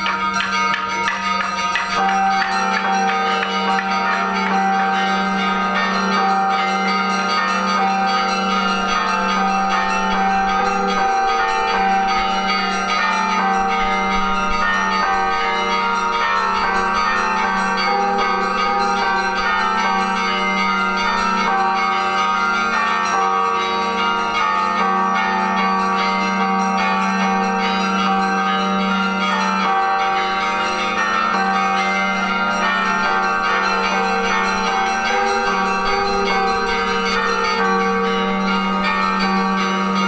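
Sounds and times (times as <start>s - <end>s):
church bells ringing a peal: 0.0s - 40.0s.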